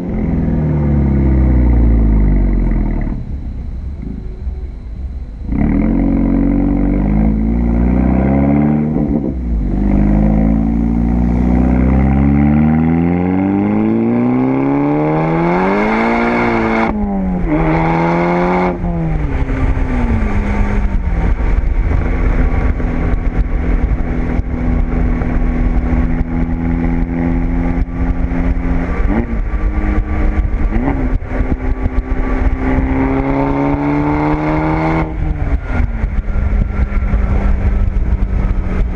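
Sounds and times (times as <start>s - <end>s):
turbocharged car engine revving: 0.0s - 38.9s.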